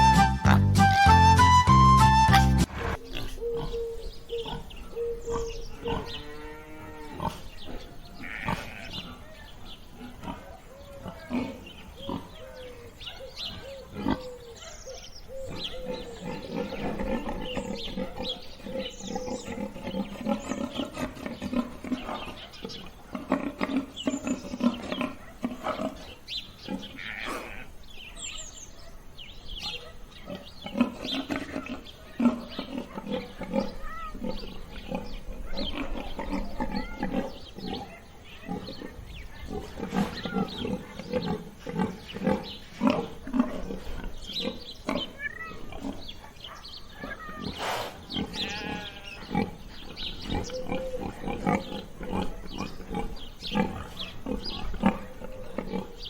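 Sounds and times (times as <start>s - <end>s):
pigs grunting: 0.0s - 0.8s, 2.6s - 28.1s, 30.0s - 56.0s
pigs squealing: 2.6s - 9.4s, 10.0s - 12.9s, 15.4s - 26.1s, 26.7s - 27.8s, 30.2s - 46.0s, 46.9s - 56.0s.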